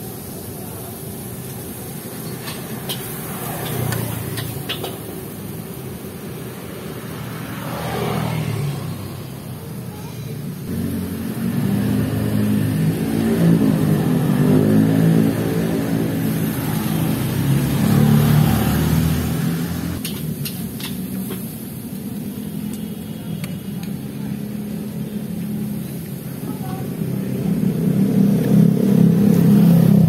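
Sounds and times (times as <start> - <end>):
passing vehicle engines rumbling: 0.0 - 30.0.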